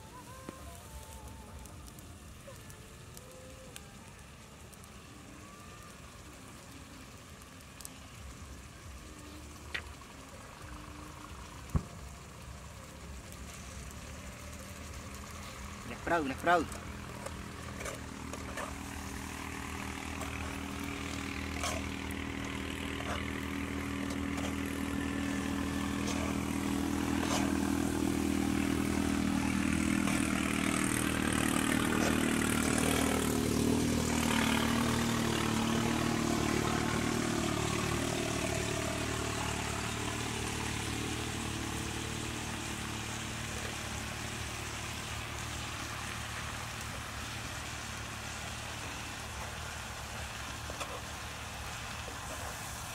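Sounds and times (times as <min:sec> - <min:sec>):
passing engine drone: 0:00.0 - 0:52.9.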